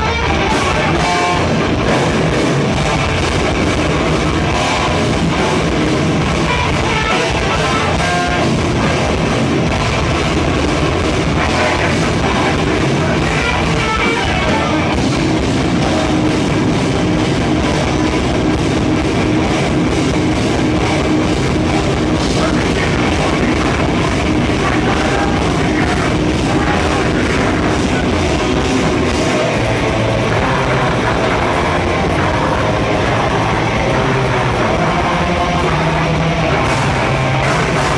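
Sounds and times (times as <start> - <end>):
live rock band playing: 0.0 - 37.9.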